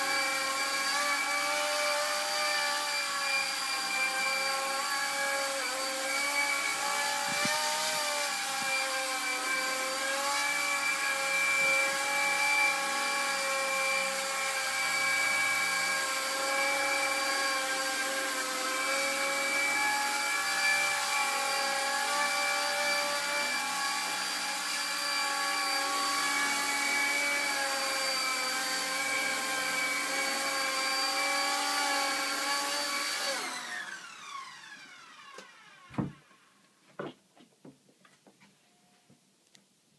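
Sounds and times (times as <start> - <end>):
toy helicopter rotors whining: 0.0 - 35.9.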